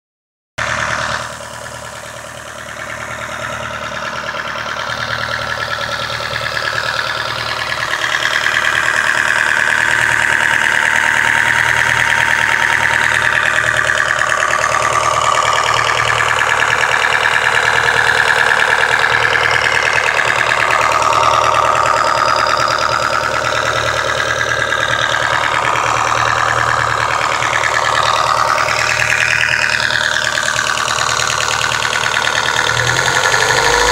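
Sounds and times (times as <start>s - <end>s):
car engine running: 0.6s - 33.9s
high-pitched squealing whine: 4.7s - 33.9s.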